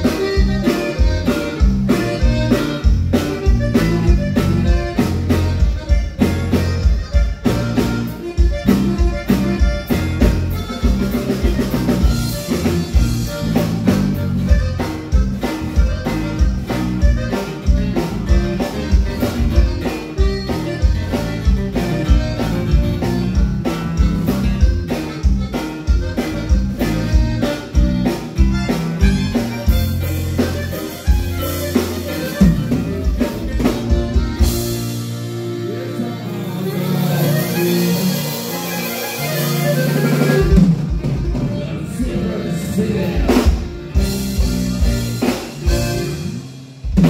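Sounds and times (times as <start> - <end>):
button accordion: 0.0 - 47.0
live polka band playing: 0.0 - 47.0.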